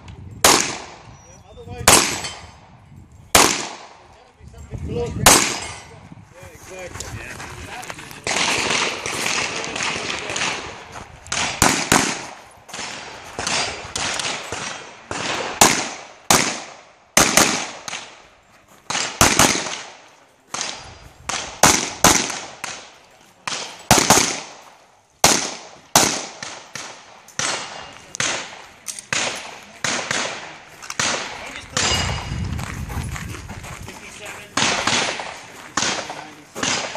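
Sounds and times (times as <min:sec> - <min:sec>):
pistol shots with echo: 0:00.4 - 0:02.7, 0:03.3 - 0:04.2, 0:05.2 - 0:06.0, 0:08.2 - 0:18.2, 0:18.9 - 0:32.3, 0:34.5 - 0:36.9.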